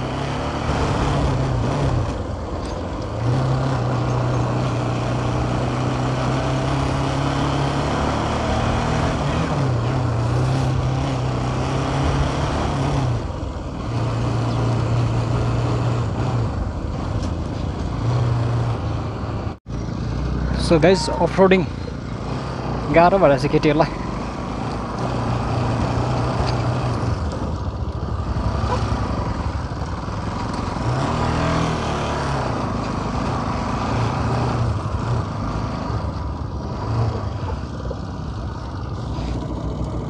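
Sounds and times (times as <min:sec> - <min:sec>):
motorcycle engine running: 0:00.0 - 0:40.0
wind and road rush: 0:00.0 - 0:40.0.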